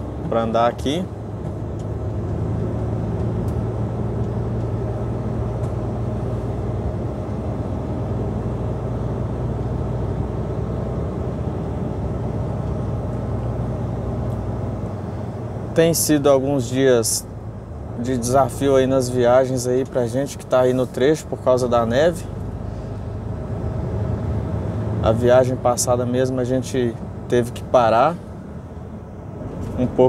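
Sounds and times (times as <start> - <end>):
road noise: 0.0 - 30.0
truck diesel engine drone: 0.0 - 30.0.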